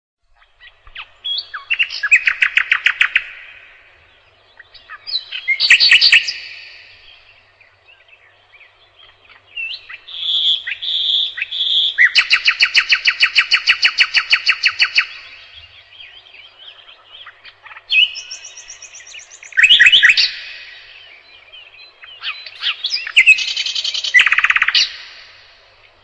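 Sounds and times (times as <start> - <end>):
nightingale singing: 0.2 - 26.0.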